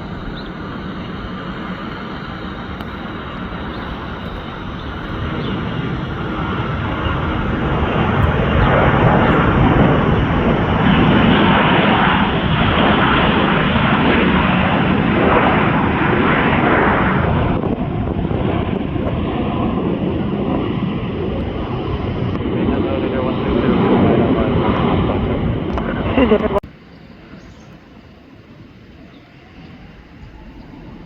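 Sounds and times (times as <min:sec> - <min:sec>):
jet airliner engines: 0:00.0 - 0:31.0.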